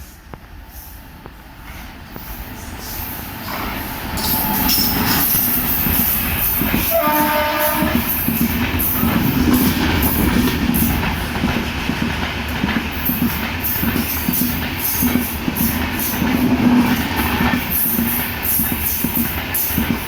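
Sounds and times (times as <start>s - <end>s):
train wheels rumbling on rail: 0.0s - 20.0s
clickety-clack over rail joints: 1.2s - 20.0s.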